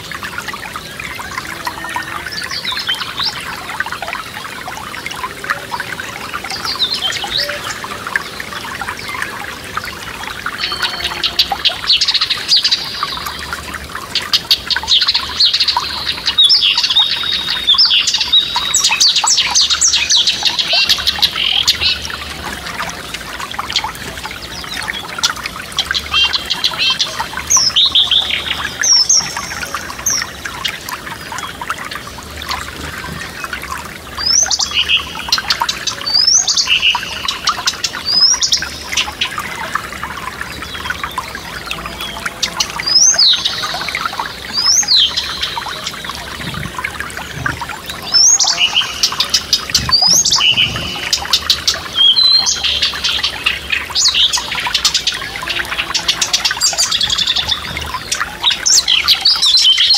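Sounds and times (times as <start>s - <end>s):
stream running: 0.0s - 59.9s
songbird singing: 0.1s - 59.9s.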